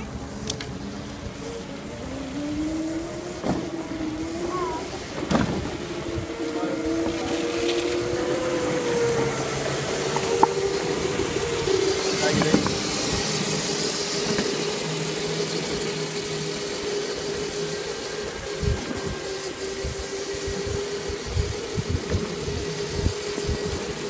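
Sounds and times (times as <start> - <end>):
electric motors whining: 0.0 - 24.0
rushing hiss of movement: 0.0 - 24.0.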